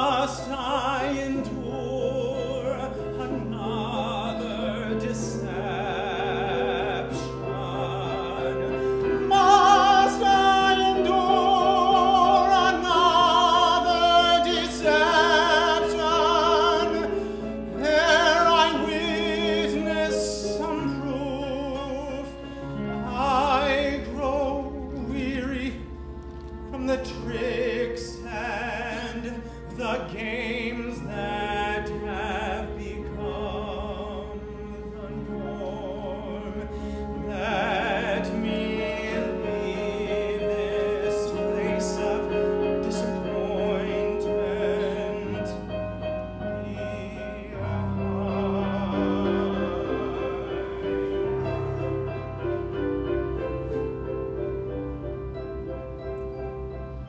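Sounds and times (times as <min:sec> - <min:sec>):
man singing opera: 0:00.0 - 0:55.4
instrumental accompaniment: 0:00.0 - 0:57.0.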